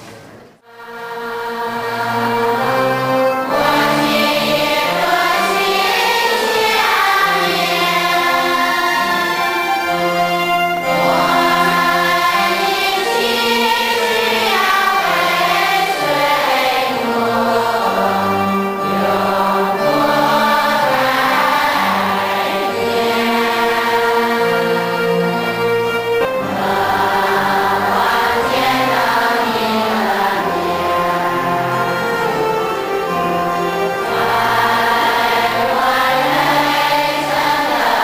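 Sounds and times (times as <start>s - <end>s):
congregation singing a hymn: 0.6s - 38.0s.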